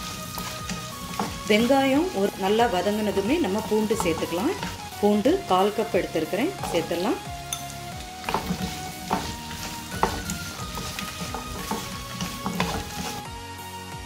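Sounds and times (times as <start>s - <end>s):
wooden spatula knocking pan: 0.0s - 4.9s, 6.3s - 13.2s
shallots sizzling in oil: 0.0s - 13.7s.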